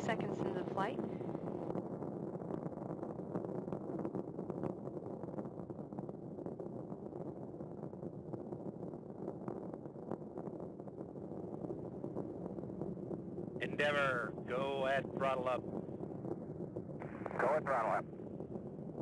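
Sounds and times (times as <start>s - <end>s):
rocket rumble: 0.0s - 19.0s.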